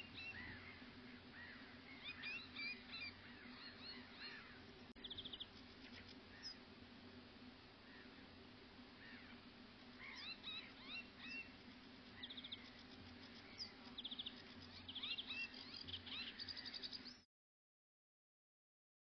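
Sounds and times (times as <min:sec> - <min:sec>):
small birds chirping and trilling: 0:00.0 - 0:06.6, 0:07.8 - 0:17.3
faint steady hum: 0:00.0 - 0:17.2.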